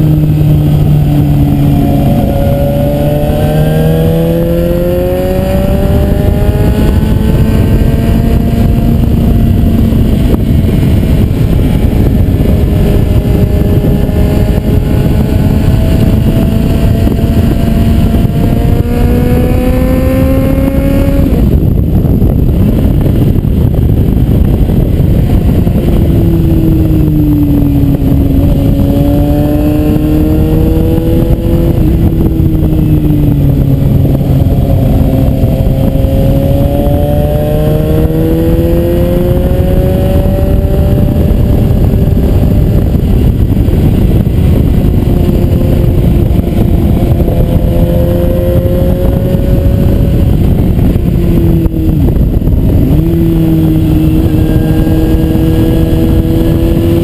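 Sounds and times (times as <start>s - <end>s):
motorcycle engine revving: 0.0s - 57.0s
wind and road rush: 0.0s - 57.0s.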